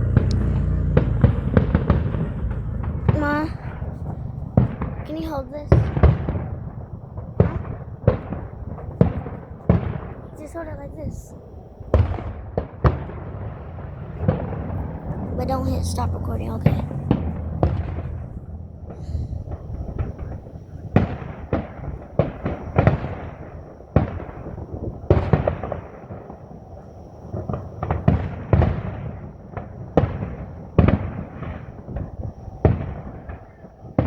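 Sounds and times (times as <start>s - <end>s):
fireworks bangs with rumbling echo: 0.0s - 34.0s.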